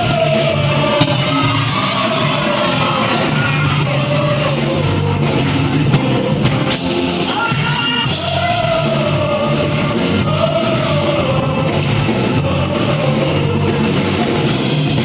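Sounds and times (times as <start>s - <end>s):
choir singing gospel song: 0.0s - 15.0s
instrumental backing: 0.0s - 15.0s
sharp percussive hits: 0.0s - 15.0s.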